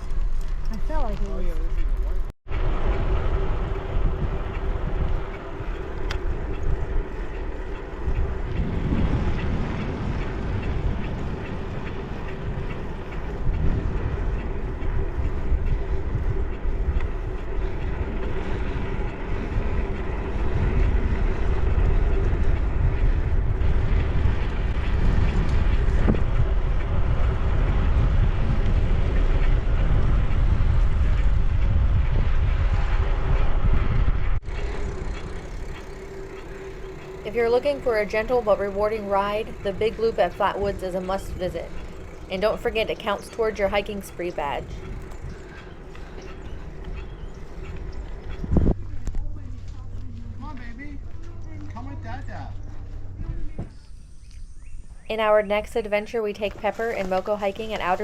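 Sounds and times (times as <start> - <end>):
bicycle tyre rumble: 0.0 - 58.0
wind rushing over microphone: 0.0 - 58.0.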